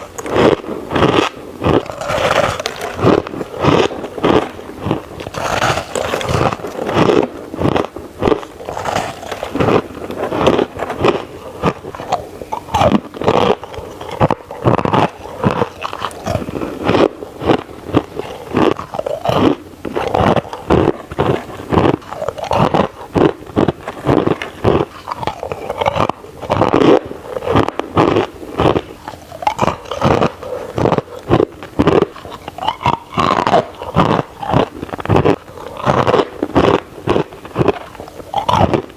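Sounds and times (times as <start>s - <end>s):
crushed ice crunching: 0.0s - 38.9s.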